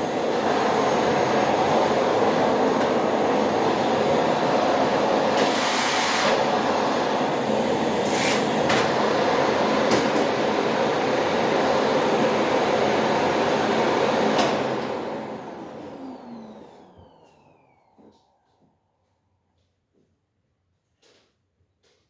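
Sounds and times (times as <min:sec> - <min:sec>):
vacuum cleaner running: 0:00.0 - 0:18.8.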